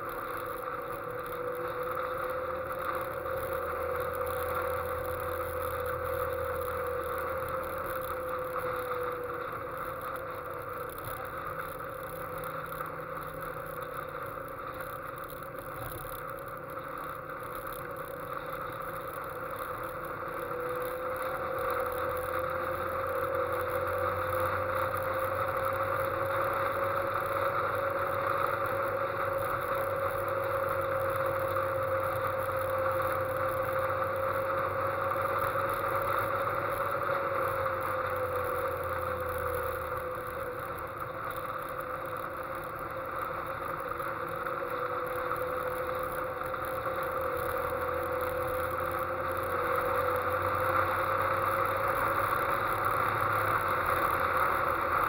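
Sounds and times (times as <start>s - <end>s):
sports car engine running: 0.0s - 55.0s.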